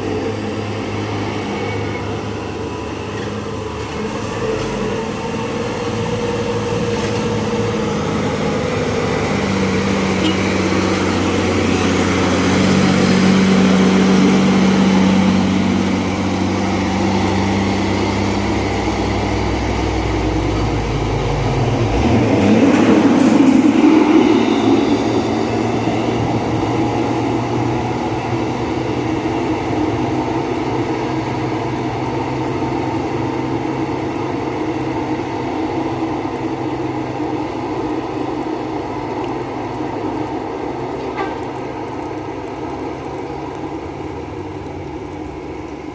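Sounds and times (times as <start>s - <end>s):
dump truck diesel engines: 0.0s - 45.9s.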